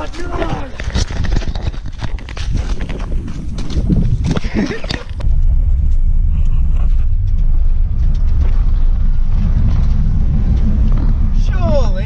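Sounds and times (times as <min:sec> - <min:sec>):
car engine and tyres rumbling: 0:01.3 - 0:12.0.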